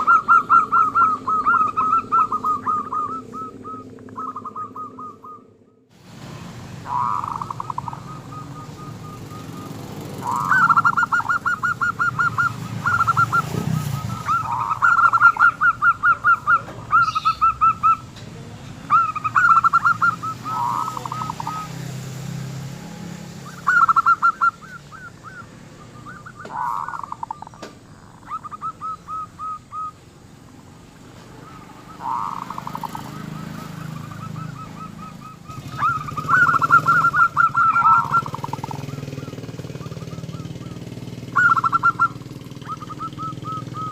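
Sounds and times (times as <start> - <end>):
doves cooing: 0.0 - 5.9, 6.6 - 43.9.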